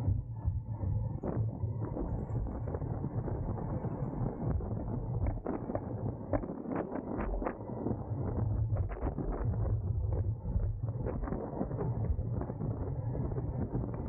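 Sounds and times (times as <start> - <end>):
wind buffeting microphone: 1.0 - 14.0.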